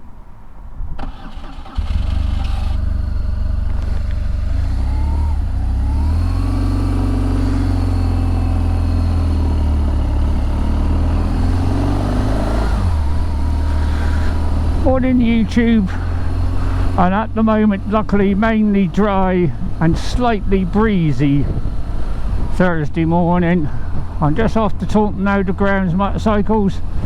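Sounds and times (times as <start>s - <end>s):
motorcycle engine revving: 1.0s - 27.0s.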